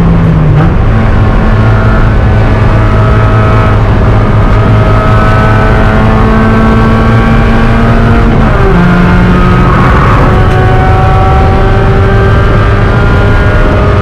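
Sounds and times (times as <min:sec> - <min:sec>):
race car engine revving high: 0:00.0 - 0:14.0.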